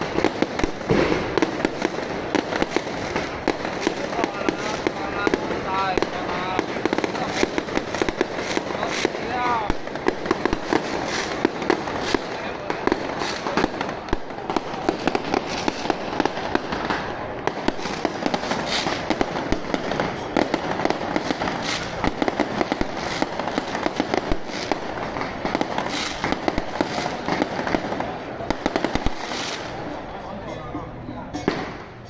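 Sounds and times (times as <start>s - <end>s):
firecracker and fireworks bangs: 0.0s - 30.2s, 31.3s - 32.0s.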